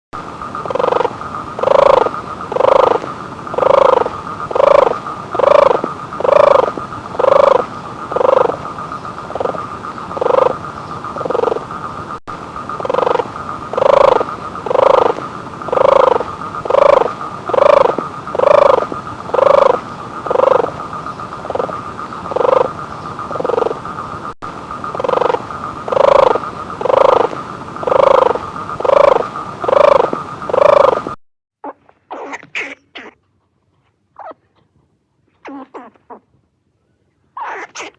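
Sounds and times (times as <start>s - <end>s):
steady high-pitched drone: 0.2s - 31.2s.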